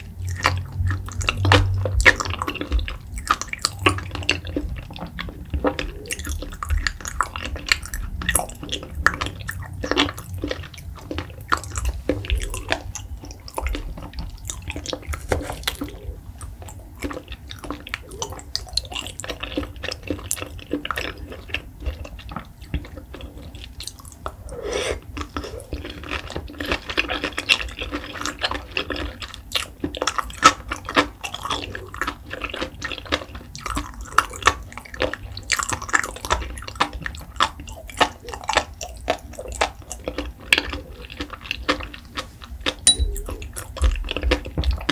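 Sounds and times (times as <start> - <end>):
chewing mouth sounds: 0.0 - 44.9.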